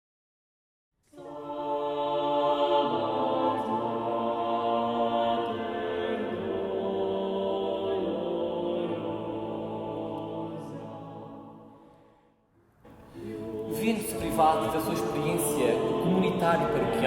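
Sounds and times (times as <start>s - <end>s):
choir singing sacred music: 1.0s - 17.0s.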